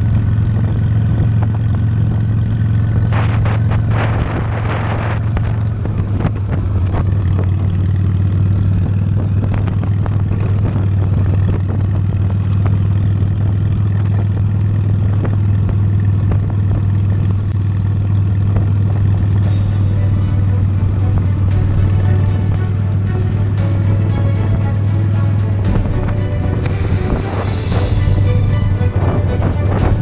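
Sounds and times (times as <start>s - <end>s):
motorcycle engine humming: 0.0s - 30.0s.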